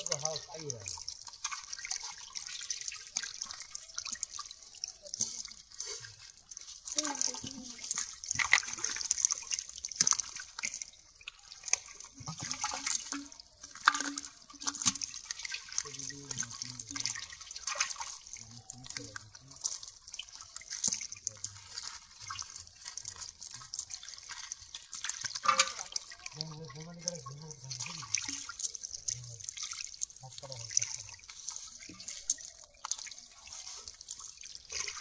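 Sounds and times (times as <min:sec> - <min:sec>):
wet net crackling and slapping: 0:00.0 - 0:35.0.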